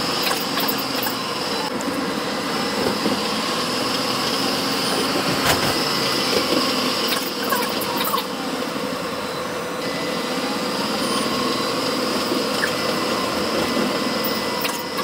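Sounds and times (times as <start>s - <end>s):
tram running noise with whine: 0.0s - 15.0s.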